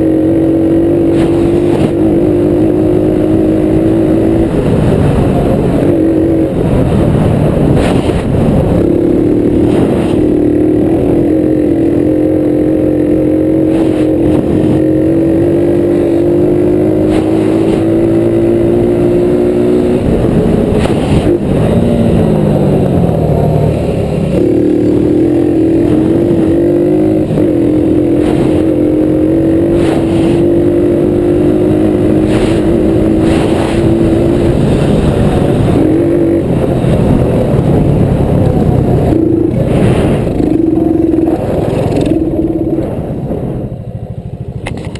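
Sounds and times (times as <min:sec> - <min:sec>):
small engine revving: 0:00.0 - 0:42.8.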